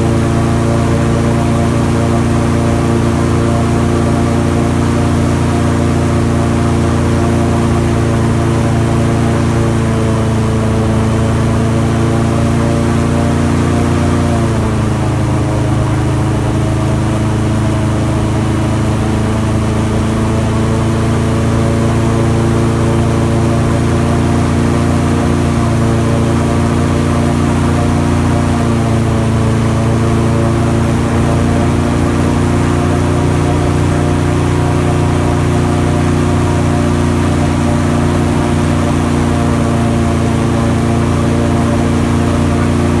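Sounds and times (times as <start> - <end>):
airboat engine and propeller droning: 0.0 - 43.0.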